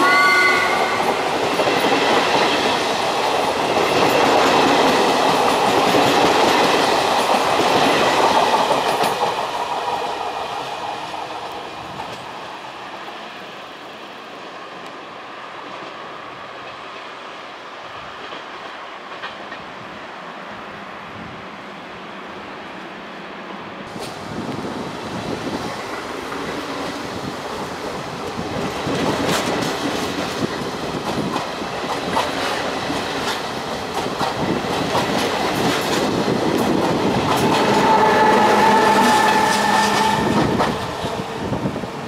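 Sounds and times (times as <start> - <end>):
electric train passing: 0.0 - 42.0.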